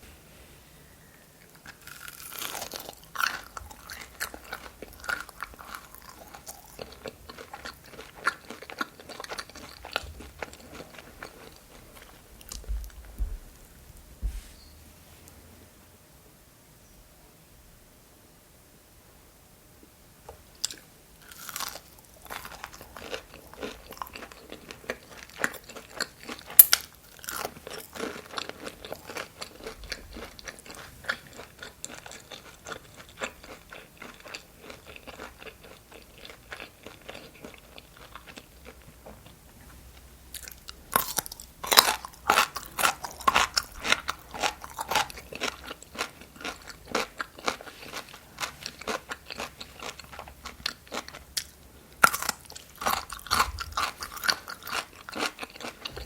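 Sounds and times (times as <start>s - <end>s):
crunchy chewing: 1.4s - 13.2s, 20.5s - 56.0s.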